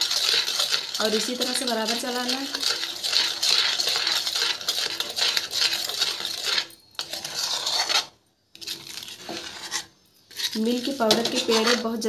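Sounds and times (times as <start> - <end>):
metal spoon scraping a metal pan: 0.0 - 12.0.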